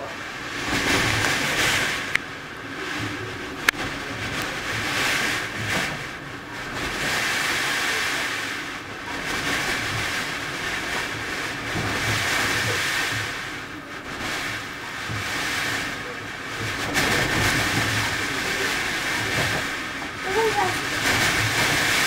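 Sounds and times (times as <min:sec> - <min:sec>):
gusting blizzard wind: 0:00.0 - 0:22.0
wind rumbling on microphone: 0:00.0 - 0:22.0.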